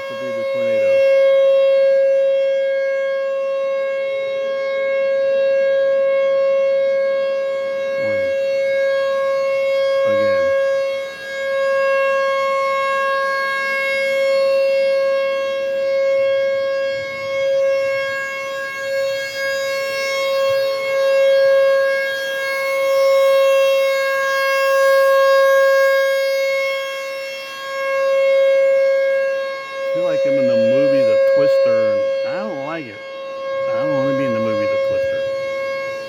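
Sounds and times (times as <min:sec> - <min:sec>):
outdoor warning siren: 0:00.0 - 0:36.0.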